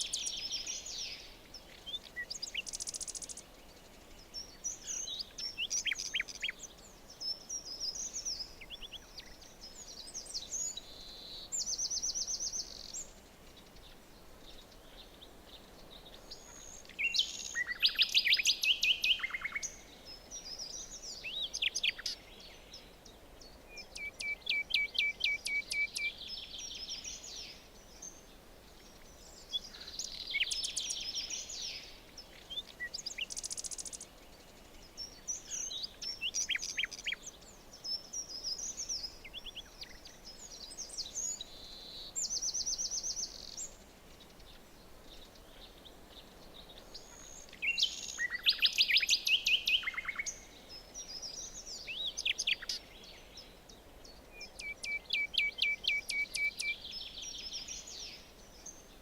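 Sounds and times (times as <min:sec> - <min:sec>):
faint background hiss: 0:00.0 - 0:59.0
songbirds singing and calling: 0:00.0 - 0:59.0.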